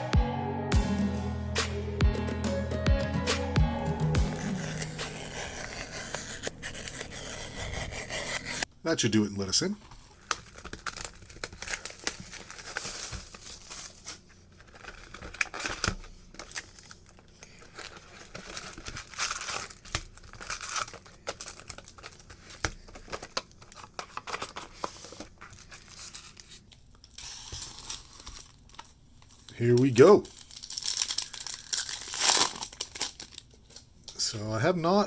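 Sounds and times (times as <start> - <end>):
plastic wrapping crinkling and tearing: 3.8 - 8.7, 10.0 - 34.2.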